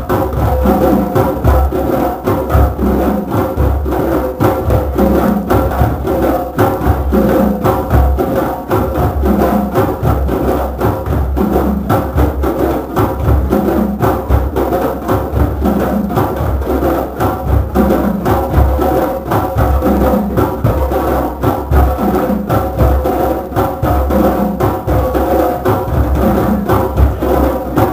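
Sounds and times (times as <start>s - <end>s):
hand drums playing: 0.0s - 27.9s.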